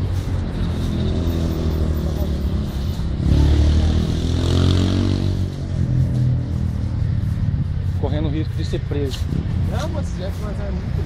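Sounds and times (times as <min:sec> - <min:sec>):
diesel trucks driving past: 0:00.0 - 0:11.0.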